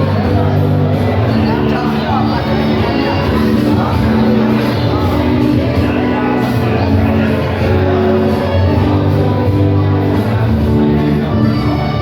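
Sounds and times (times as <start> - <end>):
instrumental song accompaniment: 0.0 - 12.0.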